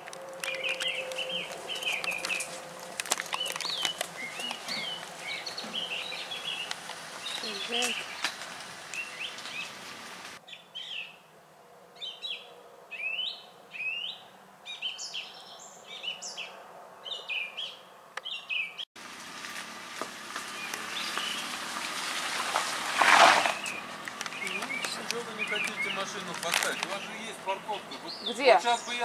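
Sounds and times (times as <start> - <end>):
light outdoor hiss: 0.0 - 16.8, 17.6 - 29.0
songbirds chirping: 0.0 - 19.4, 20.1 - 29.0.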